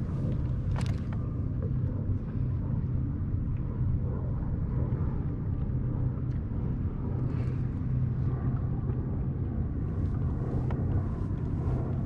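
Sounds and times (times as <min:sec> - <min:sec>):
low motor hum: 0:00.0 - 0:12.0
rumble: 0:00.0 - 0:12.0.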